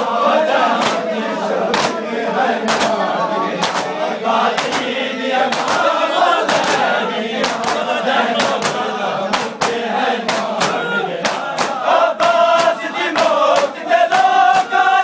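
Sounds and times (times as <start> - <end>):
men chanting in unison: 0.0 - 15.0
hands slapping chests: 0.6 - 1.1, 1.7 - 2.0, 2.6 - 3.0, 3.6 - 14.9.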